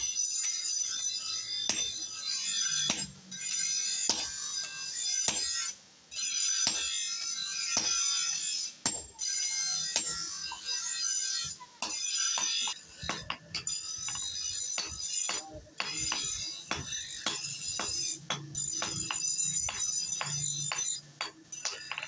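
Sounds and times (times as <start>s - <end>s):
sledgehammer ringing on anvil: 0.8s - 5.7s, 6.6s - 22.0s.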